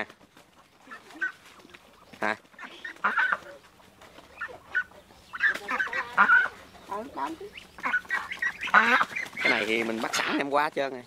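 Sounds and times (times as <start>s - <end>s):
poultry calling: 0.5s - 10.4s.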